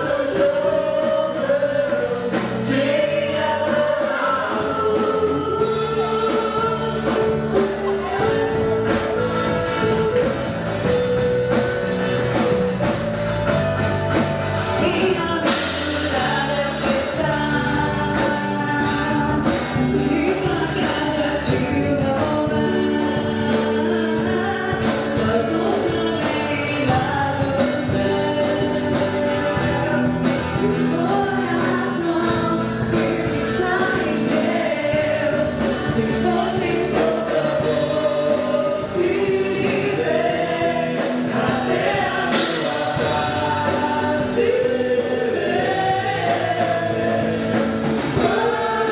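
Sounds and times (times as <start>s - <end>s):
band playing: 0.0s - 48.9s
choir singing gospel song: 0.0s - 48.9s.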